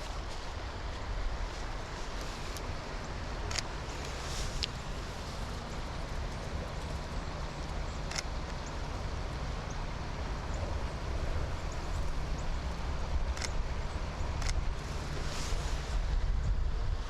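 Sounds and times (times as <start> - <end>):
wind in a forest: 0.0 - 17.0
wind rumble on microphone: 0.0 - 17.0.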